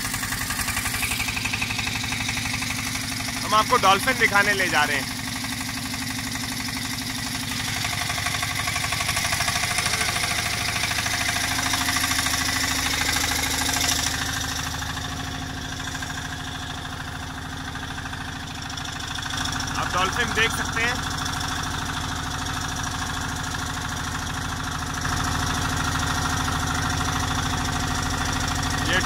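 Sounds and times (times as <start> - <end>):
boat engine knocking: 0.0 - 29.0.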